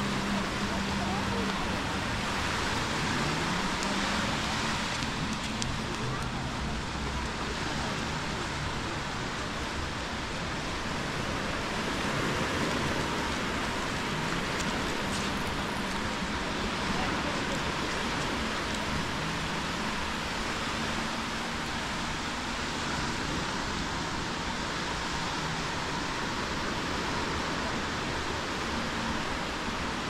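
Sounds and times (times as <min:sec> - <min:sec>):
small waves washing on sand: 0:00.0 - 0:30.0.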